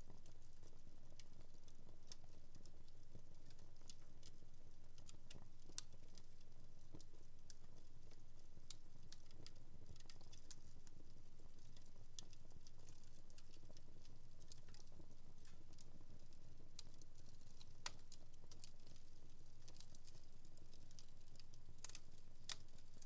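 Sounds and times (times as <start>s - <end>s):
wood fire crackling: 0.1s - 23.0s.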